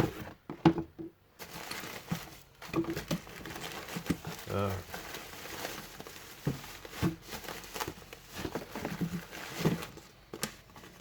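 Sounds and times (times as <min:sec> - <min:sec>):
parts rummaged in a box: 0:01.4 - 0:11.0.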